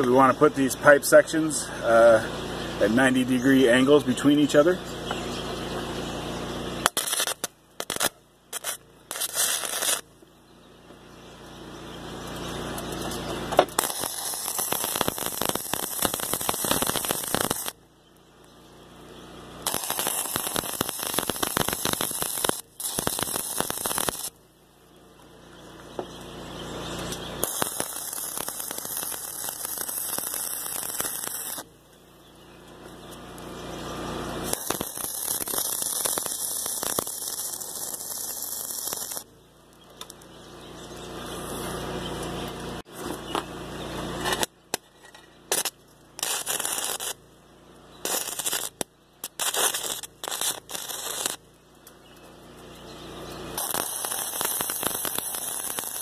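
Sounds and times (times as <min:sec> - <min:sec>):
welding arc crackling: 0:05.7 - 0:10.2, 0:12.2 - 0:18.5, 0:19.2 - 0:24.8, 0:25.7 - 0:40.4, 0:41.0 - 0:56.0.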